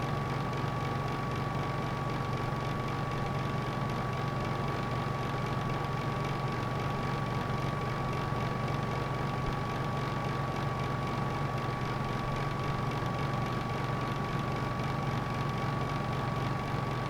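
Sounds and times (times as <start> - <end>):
electric heater humming: 0.0 - 17.0.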